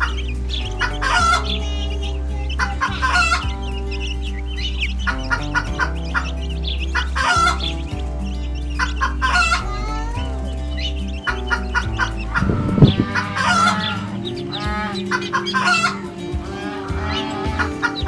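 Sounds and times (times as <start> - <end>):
background music with bass notes: 0.0 - 18.0
chickens clucking: 0.0 - 18.0.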